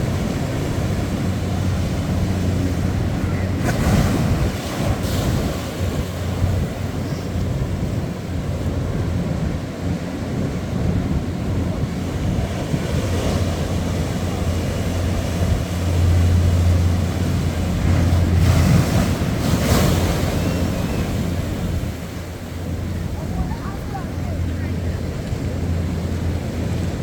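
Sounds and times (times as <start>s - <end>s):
ocean waves breaking on beach: 0.0s - 27.0s
wind buffeting microphone: 0.0s - 27.0s.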